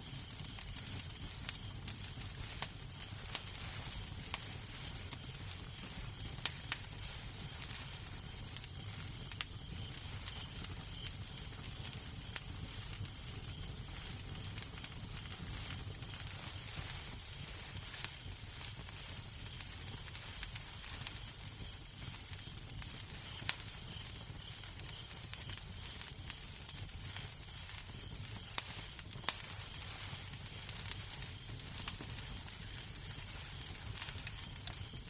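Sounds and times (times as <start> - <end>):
fire low rumble: 0.0 - 35.0
fireplace crackling: 0.0 - 35.0.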